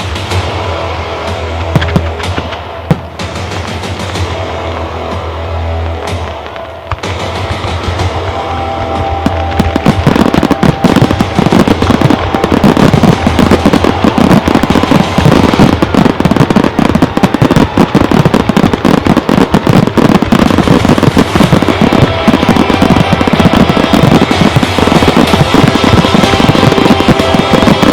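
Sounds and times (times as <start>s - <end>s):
fireworks bursts: 0.0s - 27.9s.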